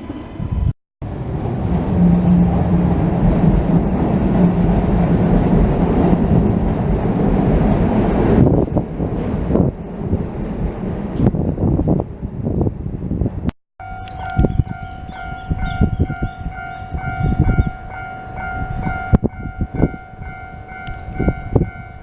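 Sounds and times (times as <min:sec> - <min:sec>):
train passing rumble: 0:00.0 - 0:22.0
wind buffeting microphone: 0:00.0 - 0:22.0.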